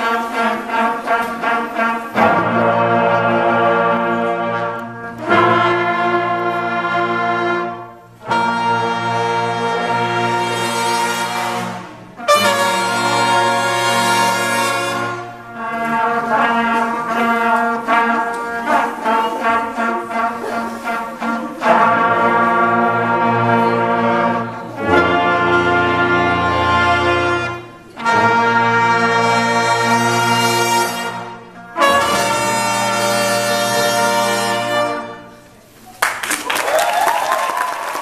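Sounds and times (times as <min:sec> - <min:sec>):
brass ensemble playing: 0:00.0 - 0:35.9.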